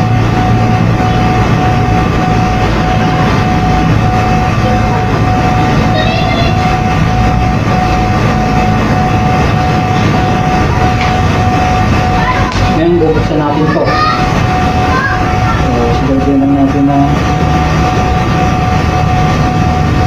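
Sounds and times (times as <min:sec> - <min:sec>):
machine humming with whine: 0:00.0 - 0:20.0.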